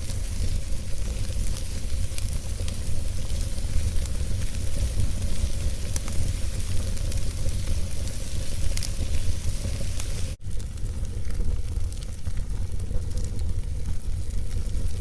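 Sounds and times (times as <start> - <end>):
fireplace fire burning: 0.0 - 15.0.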